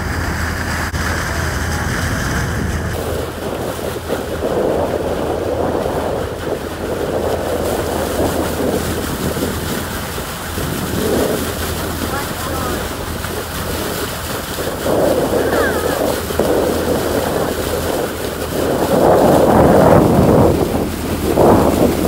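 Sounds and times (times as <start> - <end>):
bow wash rushing along hull: 0.0 - 22.0
low boat engine hum: 0.0 - 22.0
wind on microphone: 0.0 - 22.0.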